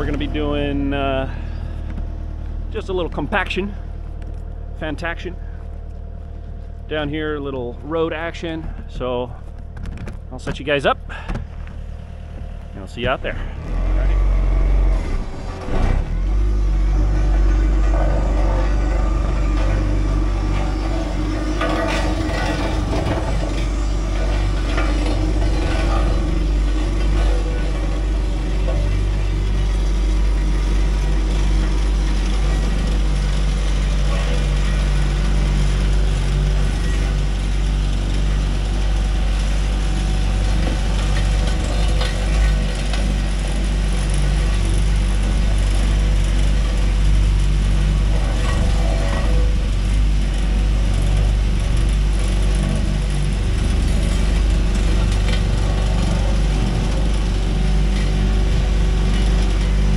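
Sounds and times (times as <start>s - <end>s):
track loader engine running: 0.0s - 59.9s.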